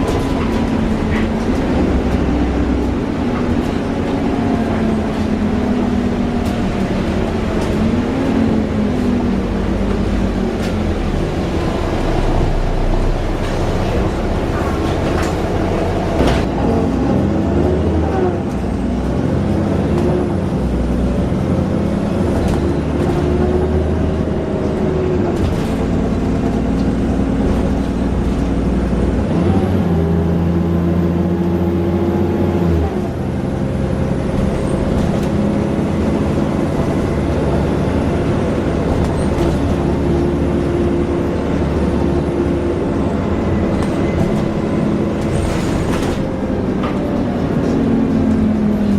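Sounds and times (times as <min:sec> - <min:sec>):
bus diesel engine: 0:00.0 - 0:48.9.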